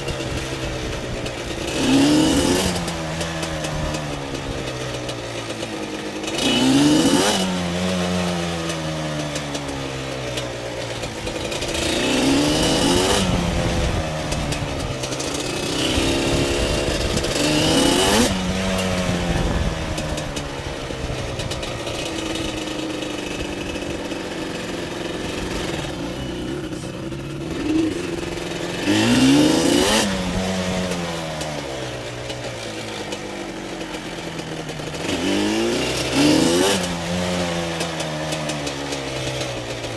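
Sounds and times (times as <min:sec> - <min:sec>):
engine revving: 0:00.0 - 0:05.6, 0:10.9 - 0:33.2, 0:34.6 - 0:39.9.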